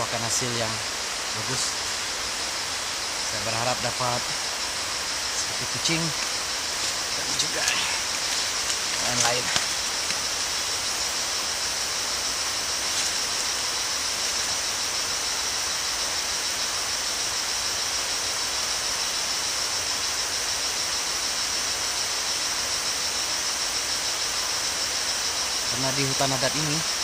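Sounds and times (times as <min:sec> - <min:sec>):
constant hiss: 0:00.0 - 0:27.0
high-pitched insect drone: 0:00.0 - 0:27.0.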